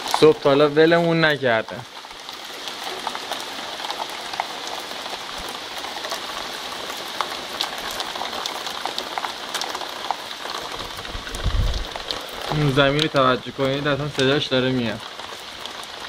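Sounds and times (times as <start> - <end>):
heavy rain on asphalt: 0.0 - 16.0
raindrop splashes: 0.0 - 16.0.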